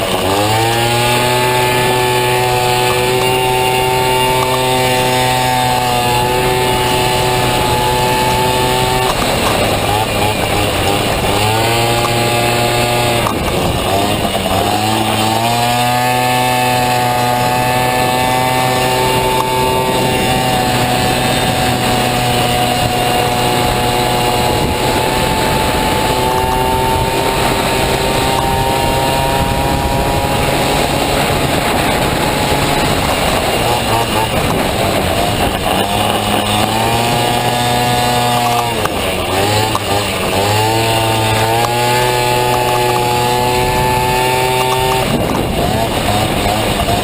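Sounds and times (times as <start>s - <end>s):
two-stroke scooter engine revving: 0.0s - 47.0s.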